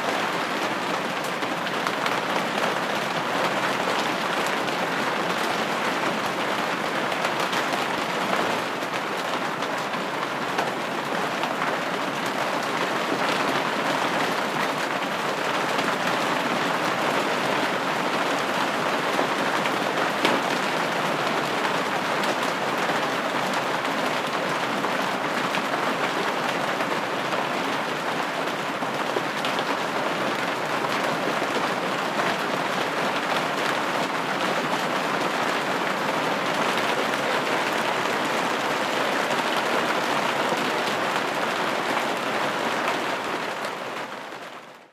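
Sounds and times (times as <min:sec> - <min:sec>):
rain on a window: 0:00.0 - 0:44.9.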